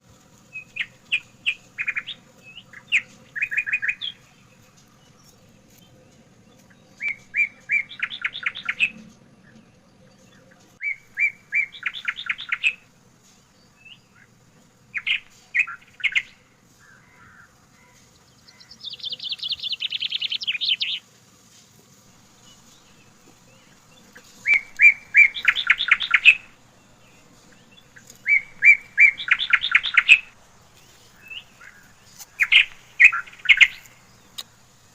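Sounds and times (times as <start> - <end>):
songbird singing chirps and trills: 0.0 - 21.1, 22.0 - 34.9.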